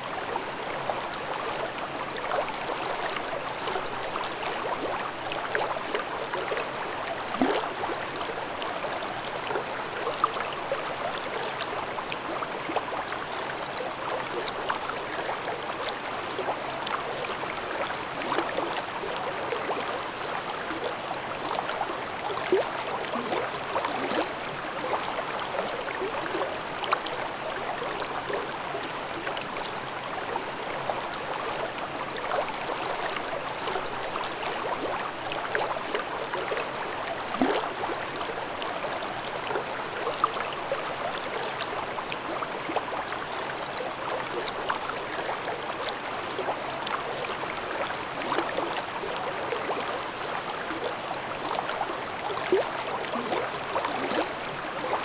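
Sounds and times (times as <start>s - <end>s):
stream babbling over rocks: 0.1s - 55.0s.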